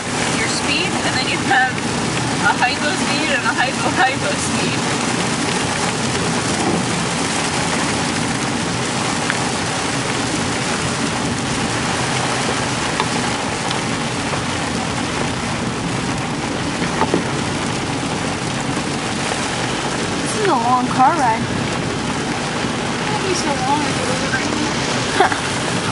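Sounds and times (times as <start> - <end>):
heavy rain on a car: 0.0 - 25.9
road and tyre noise: 0.0 - 25.9.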